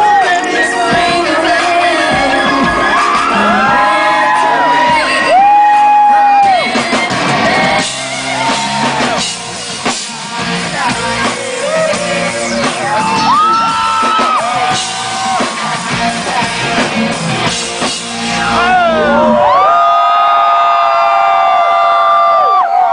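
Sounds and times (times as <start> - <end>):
crowd screaming and whooping: 0.0 - 22.9
loud pop music: 0.0 - 22.9.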